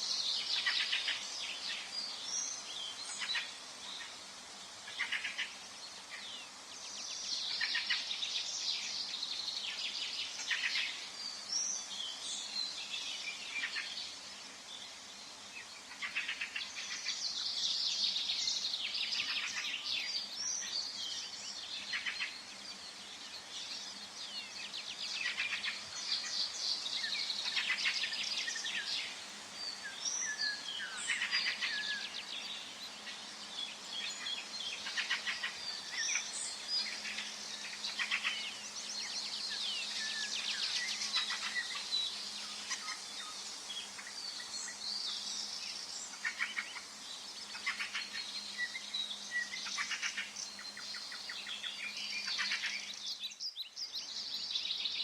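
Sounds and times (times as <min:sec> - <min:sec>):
soft background hiss: 0:00.0 - 0:55.0
songbirds singing: 0:00.0 - 0:55.0.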